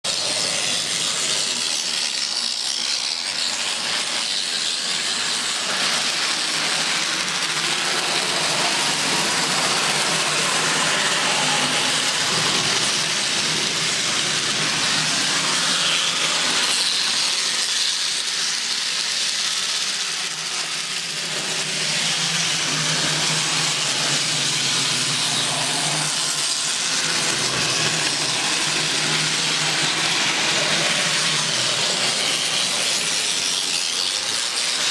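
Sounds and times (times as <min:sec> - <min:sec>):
model train motor whirring: 0:00.1 - 0:34.9.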